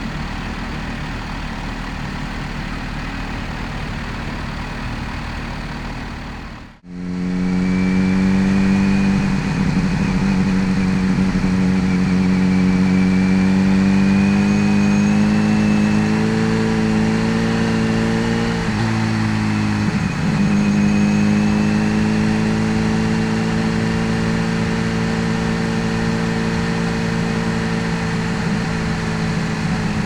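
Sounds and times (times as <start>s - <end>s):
motorcycle engine running: 0.0s - 30.0s
supercharger whine: 0.0s - 30.0s.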